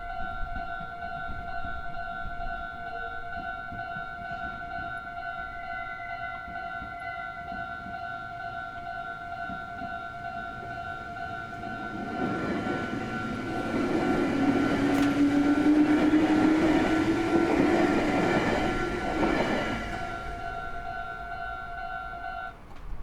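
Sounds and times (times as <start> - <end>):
level crossing warning bell: 0.0 - 22.7
train passing: 0.0 - 23.0.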